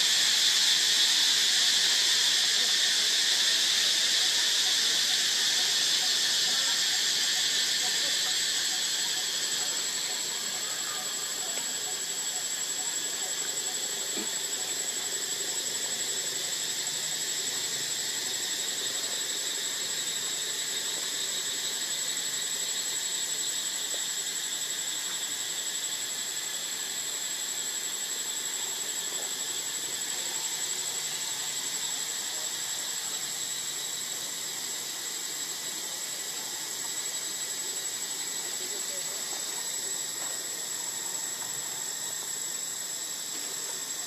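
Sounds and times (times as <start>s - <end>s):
insect chorus droning: 0.0s - 44.0s.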